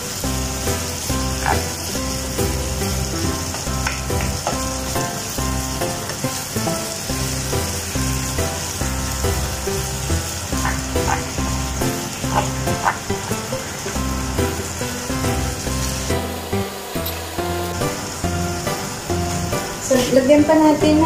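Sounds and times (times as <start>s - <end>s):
music with rhythmic bass line: 0.0s - 19.8s
meat and onions sizzling in pan: 0.0s - 21.0s.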